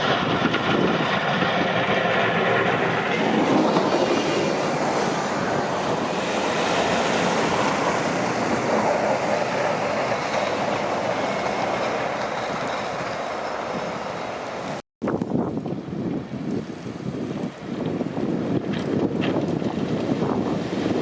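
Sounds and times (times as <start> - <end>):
plow blades scraping road: 0.0 - 14.8, 16.1 - 21.0
snowplow engines running: 0.0 - 14.8, 15.8 - 21.0.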